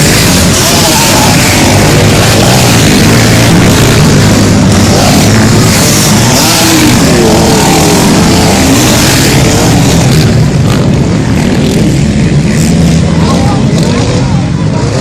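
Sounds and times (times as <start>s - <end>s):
motorcycle engines racing: 0.0s - 15.0s.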